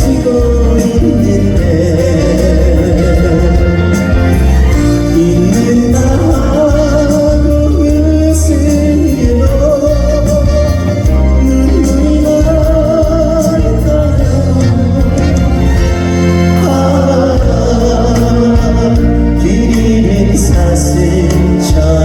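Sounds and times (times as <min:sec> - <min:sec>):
heavy bass: 0:00.0 - 0:22.0
live band ballad music: 0:00.0 - 0:22.0
sliding melody line: 0:00.0 - 0:22.0.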